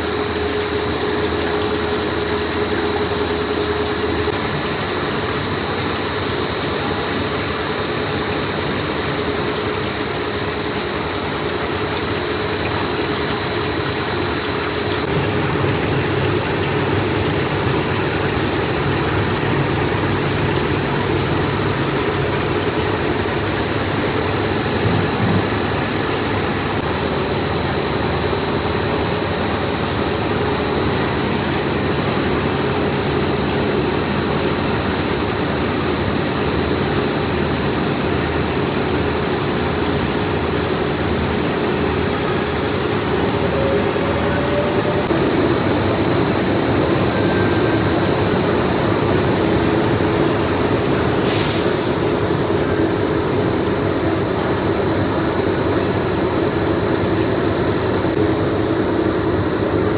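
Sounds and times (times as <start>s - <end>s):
high-pitched machine whine: 0.0s - 59.9s
machinery hum: 0.0s - 59.9s.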